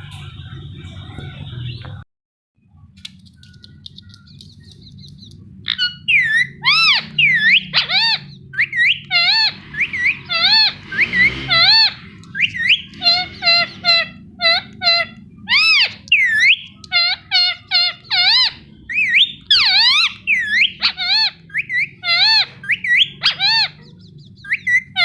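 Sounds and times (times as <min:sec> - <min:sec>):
parakeet shrill chirping calls: 0:03.6 - 0:25.0.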